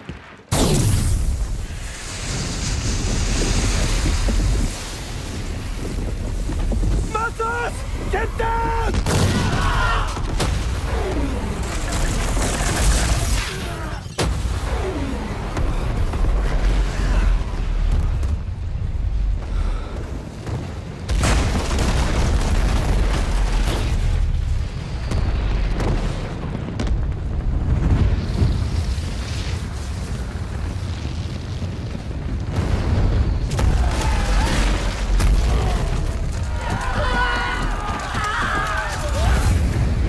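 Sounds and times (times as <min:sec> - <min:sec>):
explosion blasts: 0:00.0 - 0:40.0
low rumble of fire: 0:00.0 - 0:40.0.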